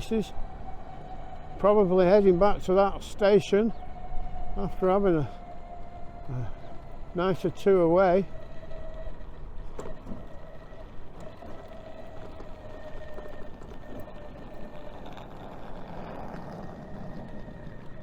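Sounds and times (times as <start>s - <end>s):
low hum of traffic: 0.0s - 18.0s.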